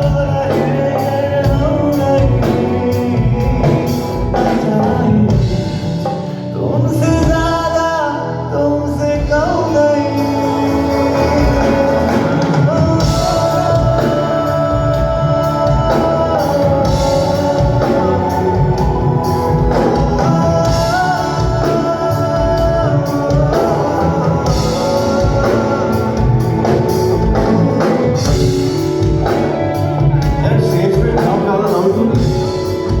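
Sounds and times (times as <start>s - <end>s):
drums with steady beat: 0.0s - 7.8s, 9.2s - 33.0s
person singing over band: 0.0s - 33.0s.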